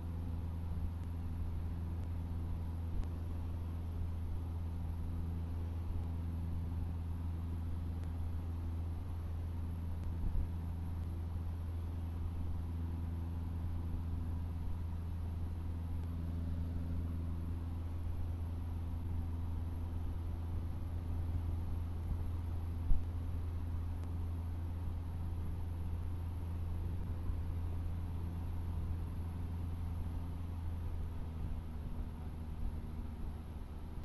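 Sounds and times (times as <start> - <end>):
small plane engine drone: 0.0 - 34.0.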